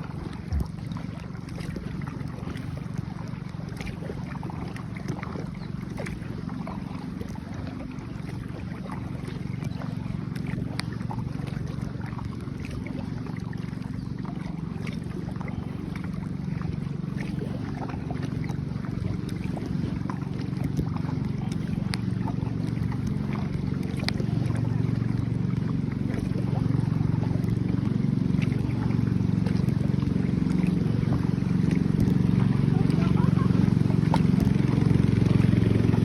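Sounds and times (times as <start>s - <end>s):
boat engine humming: 0.0s - 36.0s
small water splashes: 0.0s - 36.0s.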